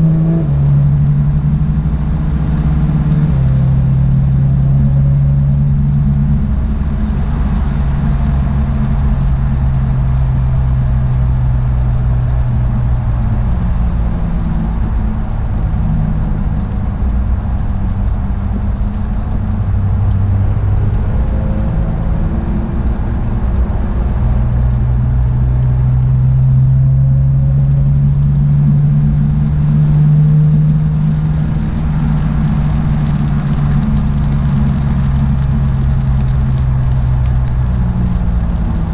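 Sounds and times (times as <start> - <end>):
car engine running on track: 0.0 - 38.9.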